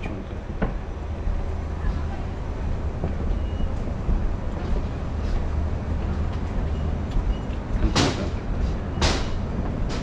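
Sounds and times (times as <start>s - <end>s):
factory machinery rumbling: 0.0s - 10.0s.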